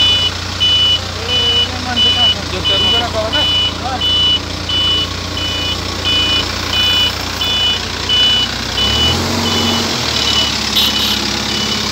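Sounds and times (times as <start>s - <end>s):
diesel engine running: 0.0s - 11.9s
reversing alarm beeping: 0.0s - 11.9s.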